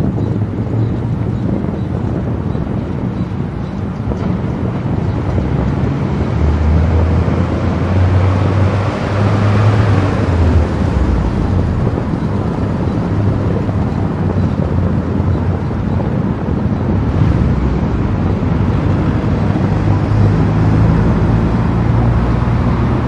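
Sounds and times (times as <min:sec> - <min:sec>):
car driving at highway speed: 0:00.0 - 0:23.0.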